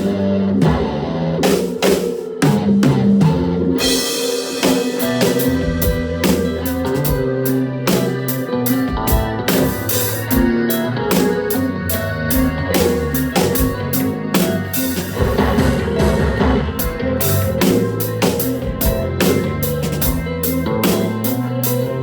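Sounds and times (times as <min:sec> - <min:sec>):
chapman stick bass notes: 0:00.0 - 0:22.0
drum kit: 0:00.0 - 0:22.0
touch-guitar lines: 0:00.0 - 0:22.0.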